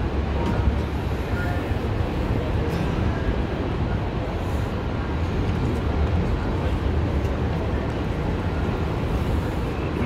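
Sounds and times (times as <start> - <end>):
busy street rumble: 0.0 - 10.0.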